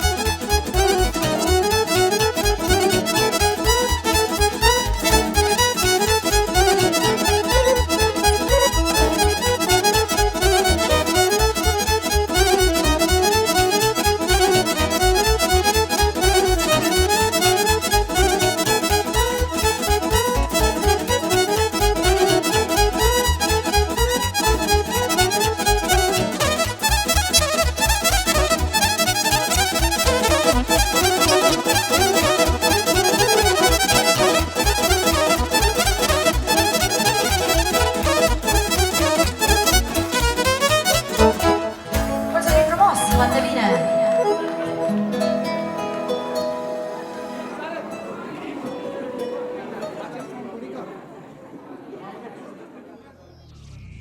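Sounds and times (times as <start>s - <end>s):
quick bass beat: 0.0s - 43.5s
fiddle playing fast melody: 0.0s - 49.2s
accordion: 0.0s - 50.1s.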